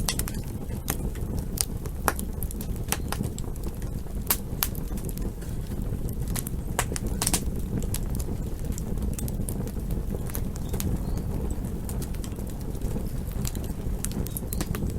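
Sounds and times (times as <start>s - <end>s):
campfire crackling and popping: 0.0s - 14.9s
low rumble of burning fire: 0.0s - 14.9s.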